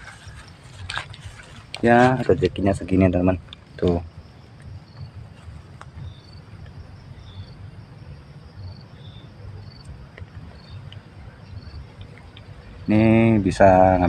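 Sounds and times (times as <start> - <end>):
insects chirping: 0.0 - 14.0
steady high insect drone: 0.0 - 14.0.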